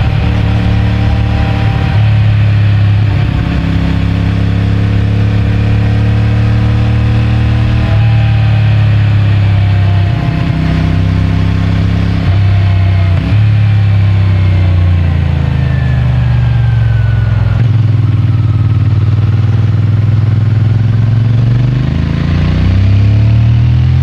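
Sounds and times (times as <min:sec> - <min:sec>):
motorcycle engine and exhaust: 0:00.0 - 0:24.0.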